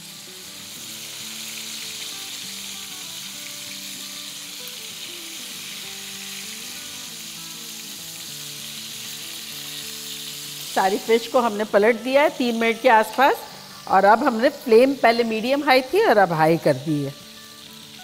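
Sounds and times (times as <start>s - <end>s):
fish sizzling in hot oil: 0.0s - 18.0s
soft background music: 0.0s - 18.0s.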